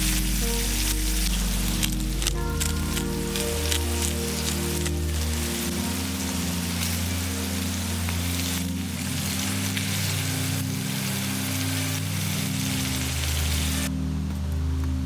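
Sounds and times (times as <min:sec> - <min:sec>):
background music: 0:00.0 - 0:15.0
steady sizzling hiss: 0:00.0 - 0:15.0.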